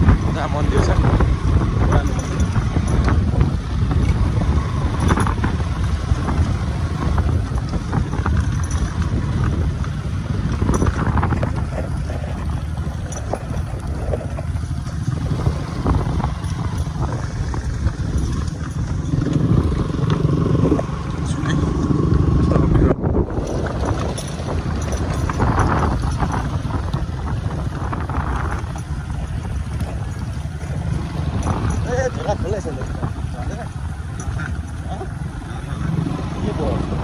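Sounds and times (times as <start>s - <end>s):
motorcycle engine rumble: 0.0s - 37.0s.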